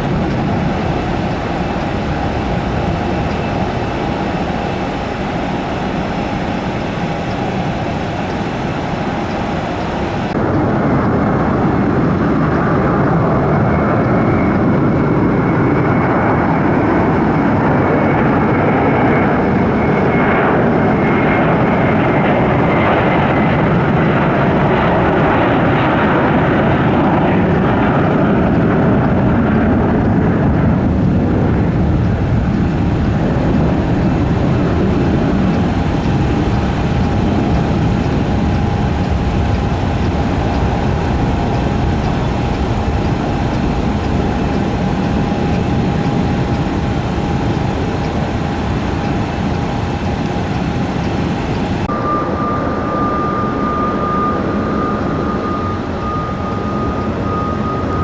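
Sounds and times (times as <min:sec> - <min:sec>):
jet engines roaring at take-off: 0:00.0 - 0:58.0
steady hum: 0:00.0 - 0:58.0.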